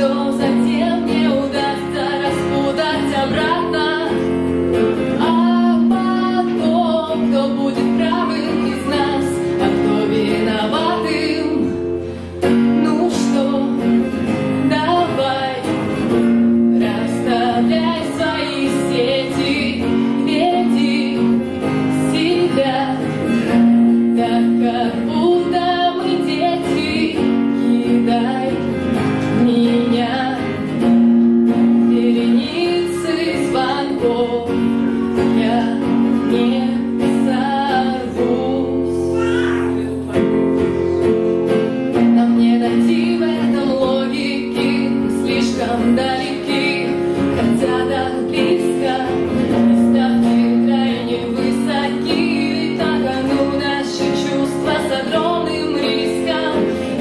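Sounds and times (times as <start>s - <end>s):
strummed acoustic guitar: 0.0s - 57.0s
woman singing: 0.0s - 57.0s.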